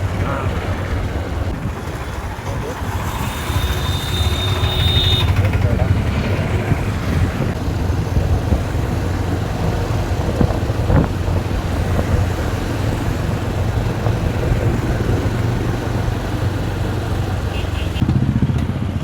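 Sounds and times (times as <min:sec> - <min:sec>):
motorcycle engine rumble: 0:00.0 - 0:19.0
road noise: 0:00.0 - 0:19.0.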